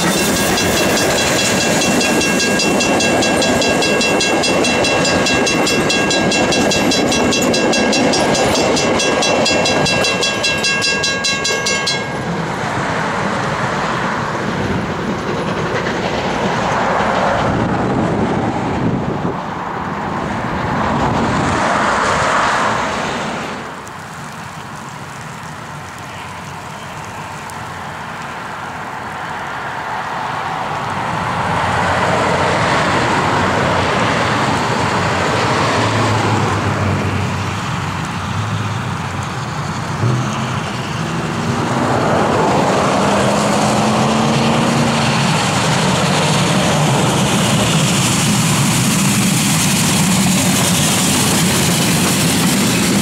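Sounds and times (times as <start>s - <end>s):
steam locomotive hauling train: 0.0s - 53.0s.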